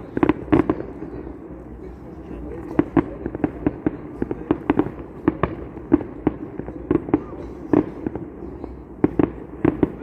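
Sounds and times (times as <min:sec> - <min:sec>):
fireworks banging: 0:00.0 - 0:10.0.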